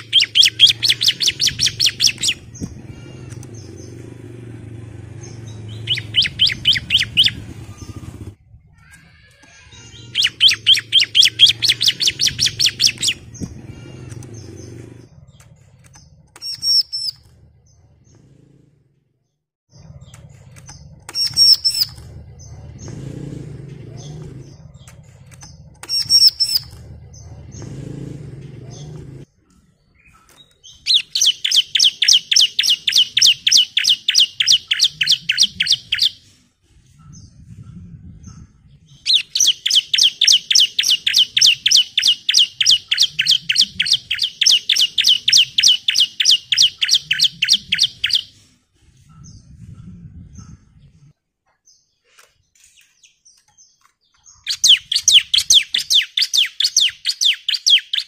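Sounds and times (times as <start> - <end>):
bird singing rapid high notes: 0.0 - 18.1, 19.7 - 23.1, 23.9 - 27.8, 29.9 - 36.2, 38.8 - 48.4, 52.7 - 58.0.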